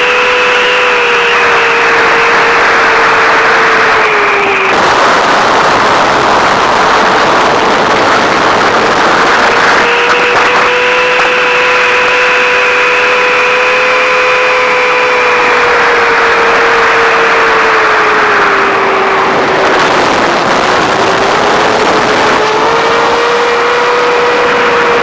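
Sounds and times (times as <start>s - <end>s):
drone motors whining: 0.0s - 25.0s
rushing air: 1.4s - 25.0s.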